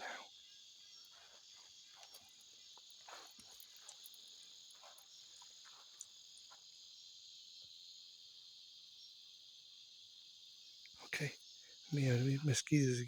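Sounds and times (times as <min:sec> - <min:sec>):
crickets and night insects: 0:00.0 - 0:13.0.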